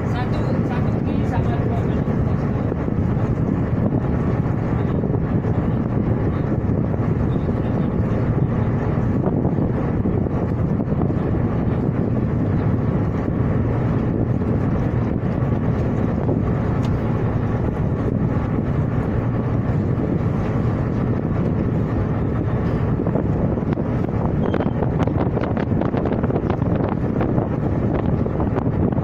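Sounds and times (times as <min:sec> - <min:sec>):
sea noise: 0:00.0 - 0:29.0
ship engine drone: 0:00.0 - 0:29.0
wind: 0:00.0 - 0:29.0.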